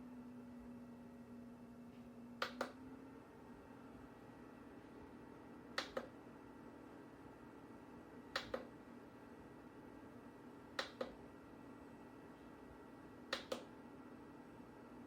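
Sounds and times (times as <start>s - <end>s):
dehumidifier humming: 0.0s - 15.0s.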